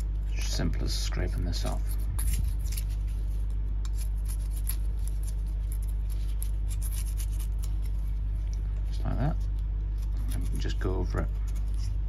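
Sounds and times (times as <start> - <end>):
scratchy gasket scraping: 0.0 - 12.0
steady low hum: 0.0 - 12.0.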